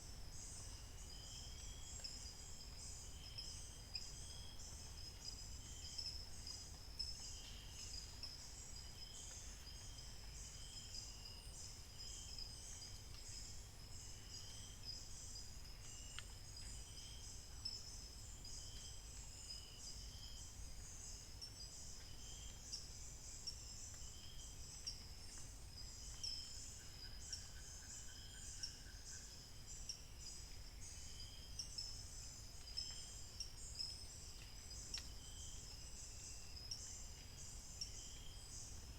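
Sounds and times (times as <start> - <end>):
insects chirring: 0.3 - 38.9.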